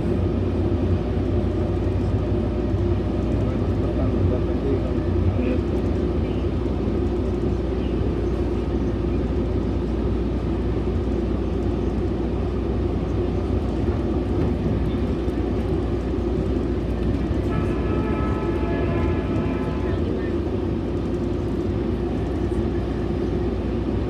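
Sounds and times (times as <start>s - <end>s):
train rumbling on board: 0.0s - 24.0s.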